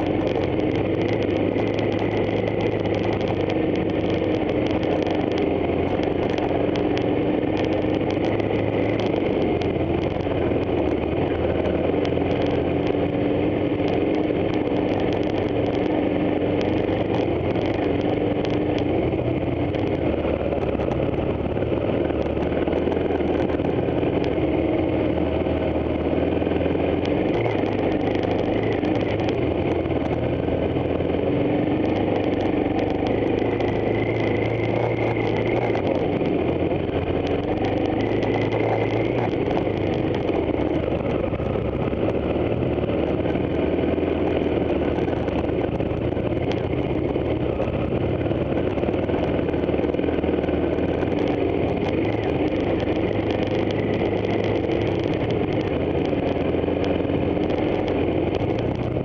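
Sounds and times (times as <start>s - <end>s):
bike rattling over bumps: 0.0s - 59.0s
motorcycle engine running: 0.0s - 59.0s.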